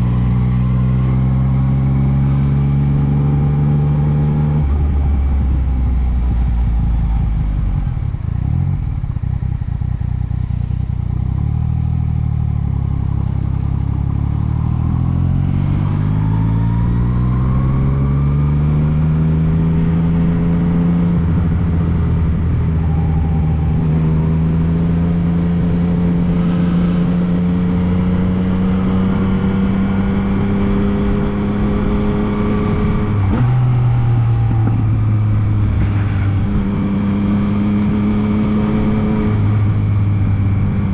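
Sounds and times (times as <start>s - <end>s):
motorcycle engine under throttle: 0.0s - 40.9s.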